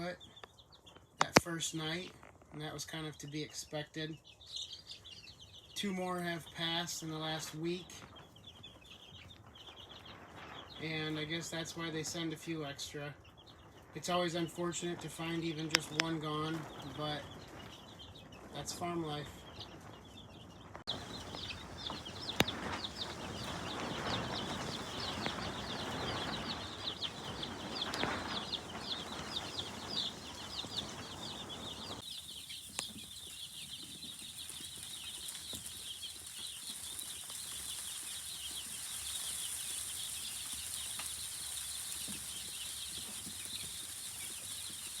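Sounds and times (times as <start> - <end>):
chicks peeping: 0.0 - 45.0
rustling noise: 7.4 - 12.3, 13.5 - 45.0.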